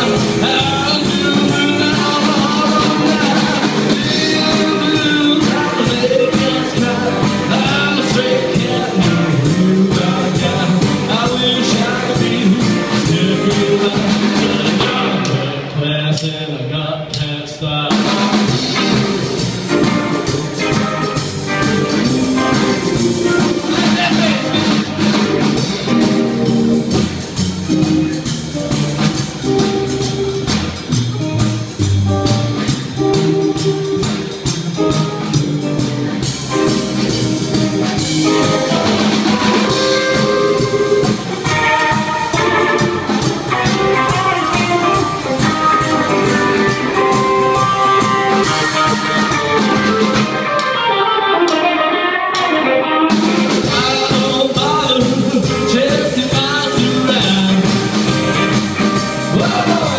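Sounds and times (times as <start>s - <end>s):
upright double bass: 0.0s - 50.3s, 53.1s - 59.9s
drum kit: 0.0s - 59.9s
lead electric guitar: 0.0s - 59.9s.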